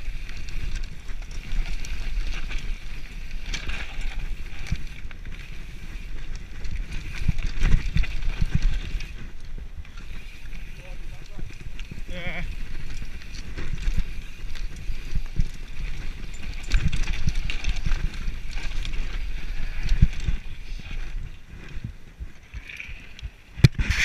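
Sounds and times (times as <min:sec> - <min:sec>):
bike knocking and rattling: 0:00.0 - 0:24.0
wind on microphone: 0:00.0 - 0:24.0.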